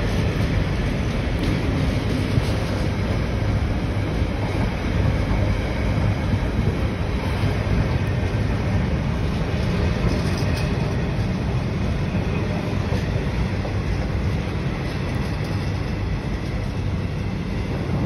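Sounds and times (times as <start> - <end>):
train wheels rolling on rails: 0.0 - 18.0.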